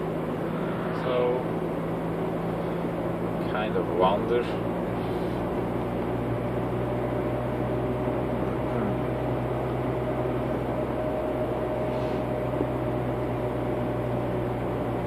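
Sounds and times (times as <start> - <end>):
car engine and tyre drone: 0.0 - 15.0
low hum: 0.0 - 15.0.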